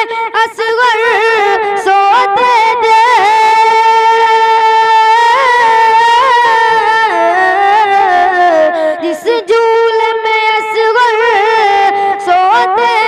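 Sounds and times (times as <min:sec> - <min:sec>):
boy singing unaccompanied: 0:00.0 - 0:13.0.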